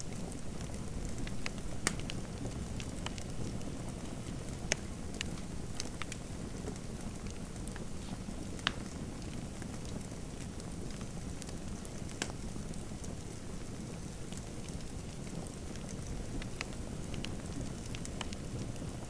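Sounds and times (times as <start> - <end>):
fire burning low rush: 0.0 - 19.0
fire crackling and popping: 0.0 - 19.0.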